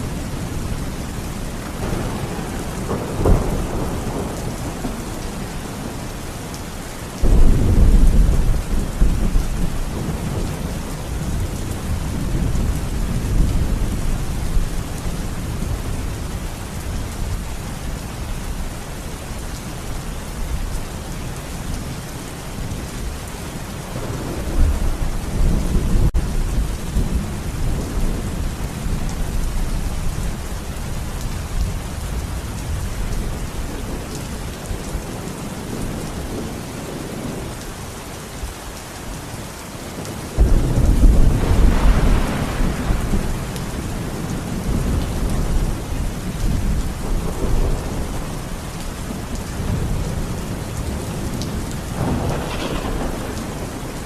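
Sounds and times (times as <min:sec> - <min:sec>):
thunder rumbling: 0:00.0 - 0:06.6, 0:07.2 - 0:17.9, 0:22.6 - 0:37.7, 0:40.0 - 0:54.0
steady rain: 0:00.0 - 0:54.0.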